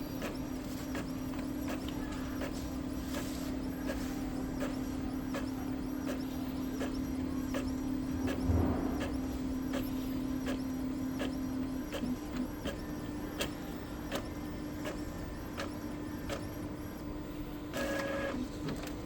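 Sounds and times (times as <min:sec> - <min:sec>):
printer motor hum: 0:00.0 - 0:19.0.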